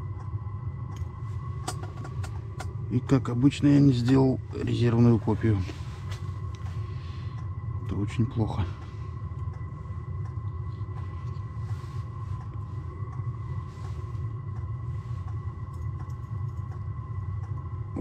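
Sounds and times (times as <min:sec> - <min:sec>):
low rumble: 0:00.0 - 0:18.0
thin steady whine: 0:00.0 - 0:18.0.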